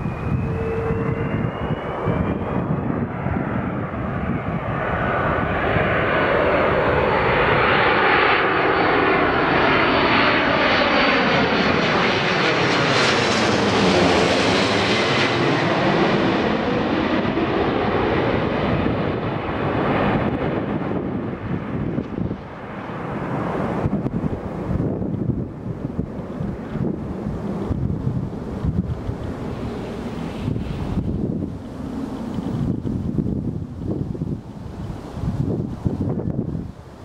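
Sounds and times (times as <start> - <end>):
airliner jet engines overhead: 0.0 - 37.0
high jet whine: 0.0 - 37.0.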